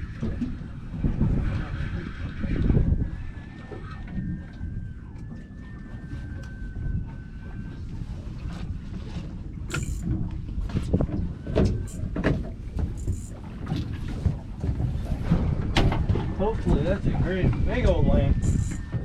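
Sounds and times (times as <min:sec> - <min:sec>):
water splashing against hull: 0:00.0 - 0:19.0
wind and water rumble: 0:00.0 - 0:19.0.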